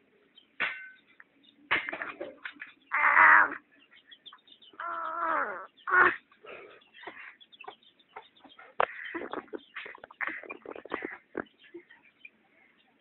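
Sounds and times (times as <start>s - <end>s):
chickens clucking: 1.6s - 13.0s.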